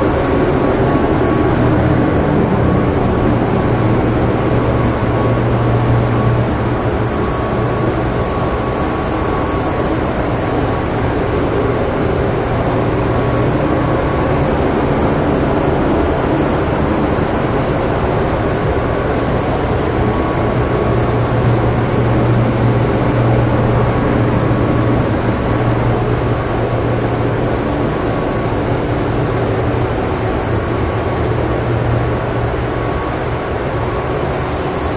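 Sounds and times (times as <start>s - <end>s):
machinery hum: 0.0s - 34.9s.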